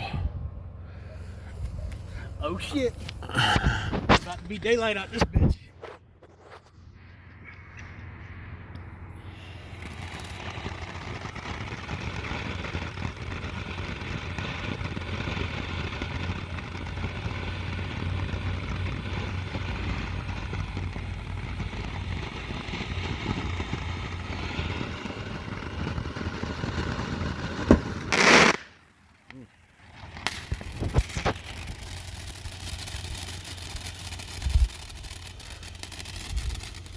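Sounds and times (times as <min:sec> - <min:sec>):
firework fountain hissing: 0:00.9 - 0:05.5, 0:09.2 - 0:36.9.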